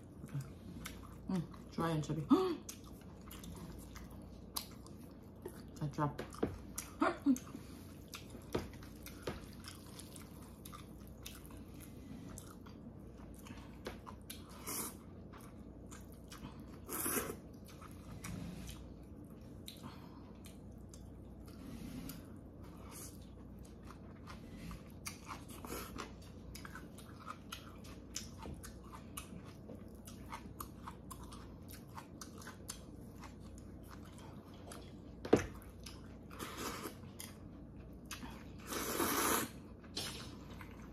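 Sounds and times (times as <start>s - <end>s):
close chewing: 0.0s - 1.8s, 2.6s - 38.7s.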